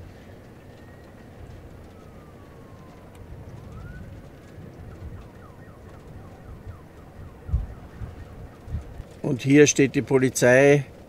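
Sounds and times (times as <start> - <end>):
low rumble: 0.0 - 9.2
faint emergency siren: 0.0 - 11.0.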